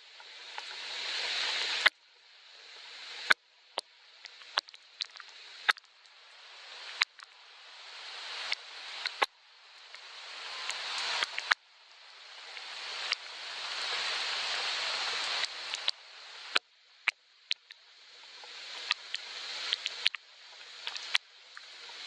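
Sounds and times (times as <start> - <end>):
soft rain hissing: 0.0 - 22.0.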